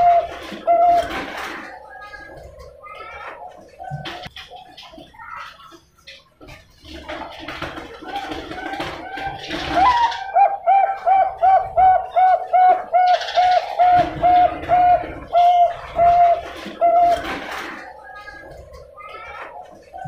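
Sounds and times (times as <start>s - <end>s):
dove cooing: 0.0s - 4.3s, 7.4s - 20.0s.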